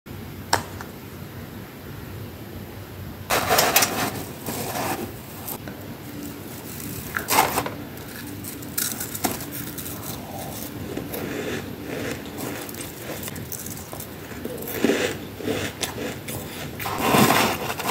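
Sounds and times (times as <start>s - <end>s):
spoon scraping frost: 3.3s - 17.9s.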